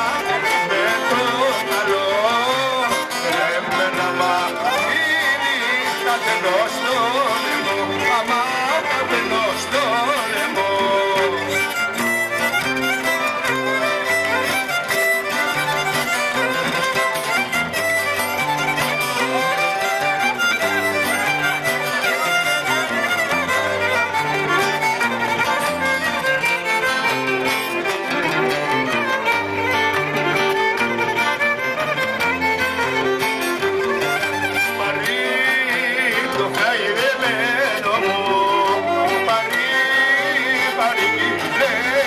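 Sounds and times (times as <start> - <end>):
folk dance music over loudspeakers: 0.0 - 42.0
violin melody: 0.0 - 42.0.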